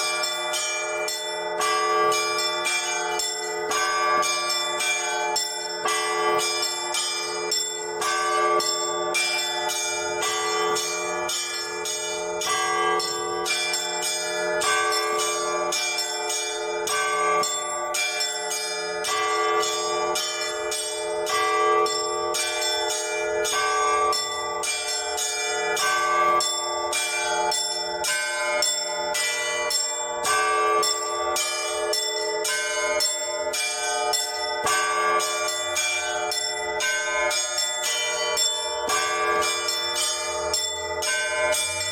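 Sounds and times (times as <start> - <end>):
large bells ringing: 0.0 - 41.9
small church bells ringing fast: 0.0 - 41.9.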